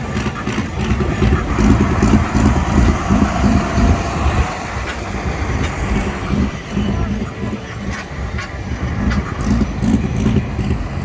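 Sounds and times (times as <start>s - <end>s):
tractor engine rough rumble: 0.0s - 11.0s.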